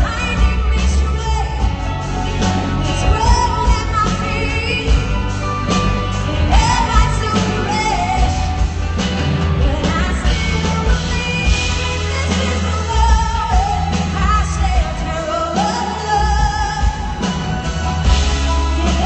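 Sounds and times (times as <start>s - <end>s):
band with heavy bass line: 0.0s - 19.0s.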